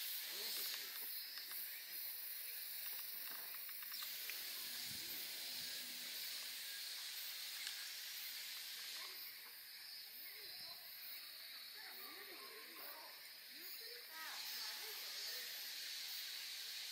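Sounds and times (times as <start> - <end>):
steady background hiss: 0.0 - 16.9.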